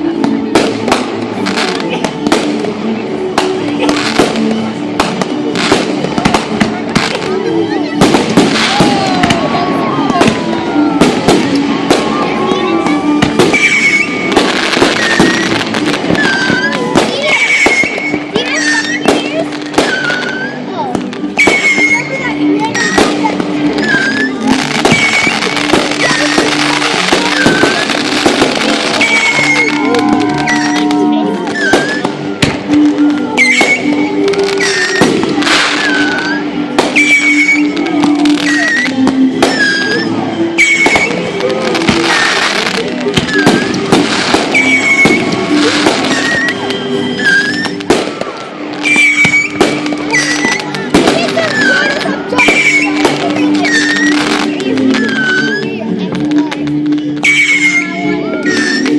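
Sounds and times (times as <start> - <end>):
fireworks popping and crackling: 0.0 - 58.9
music: 0.0 - 58.9.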